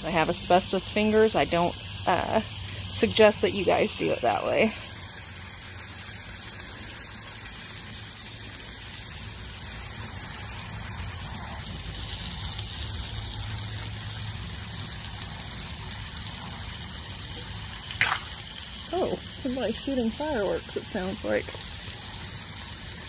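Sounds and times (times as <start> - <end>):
griddle hiss and sizzle: 0.0 - 23.0.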